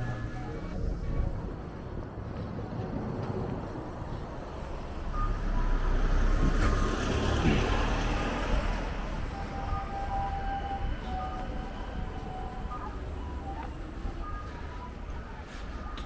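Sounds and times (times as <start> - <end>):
heavy road vehicle passing: 0.0 - 16.0.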